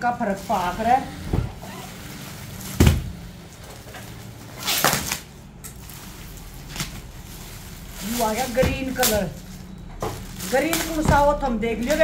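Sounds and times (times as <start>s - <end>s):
plastic wrapping crinkle: 0.0s - 12.0s.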